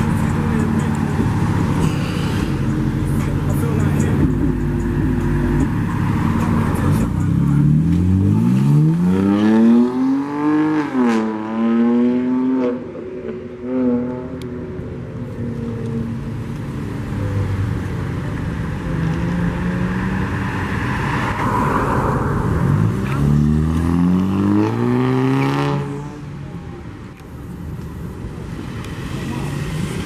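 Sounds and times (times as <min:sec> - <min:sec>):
car engine revving: 0:00.0 - 0:14.7, 0:15.6 - 0:26.2.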